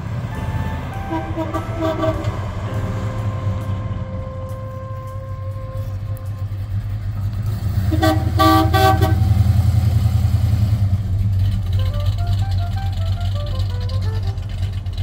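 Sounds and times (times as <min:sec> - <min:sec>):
car engine driving past: 0:00.0 - 0:15.0
car horn toots: 0:00.3 - 0:09.5, 0:11.6 - 0:15.0.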